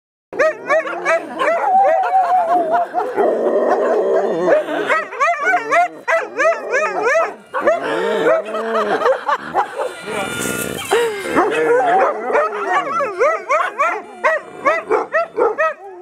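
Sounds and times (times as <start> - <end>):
dogs howling: 0.4 - 16.0
dogs yelping: 0.4 - 16.0.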